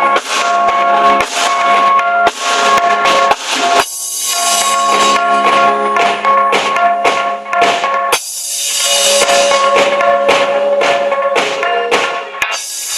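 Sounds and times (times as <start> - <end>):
drum kit and tambourine music: 0.0 - 12.9.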